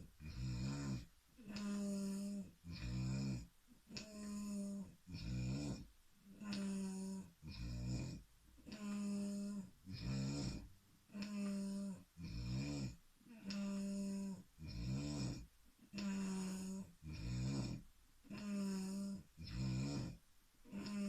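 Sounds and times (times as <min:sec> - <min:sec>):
person snoring: 0:00.0 - 0:21.0.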